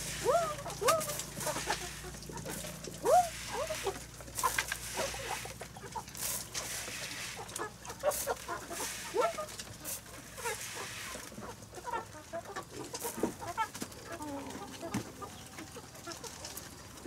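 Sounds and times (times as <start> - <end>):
hen rising and falling calls: 0.0 - 15.7
hens clucking: 0.0 - 17.0.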